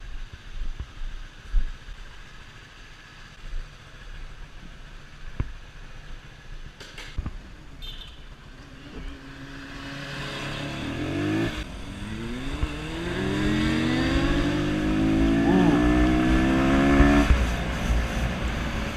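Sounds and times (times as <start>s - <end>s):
motorcycle engine: 2.6s - 18.9s.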